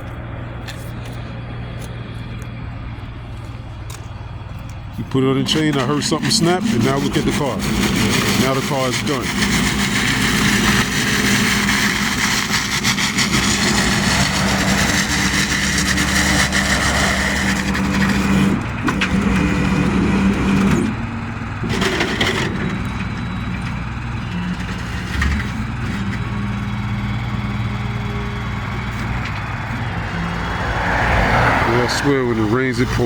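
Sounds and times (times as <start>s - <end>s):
tow truck engine running: 0.0s - 33.0s.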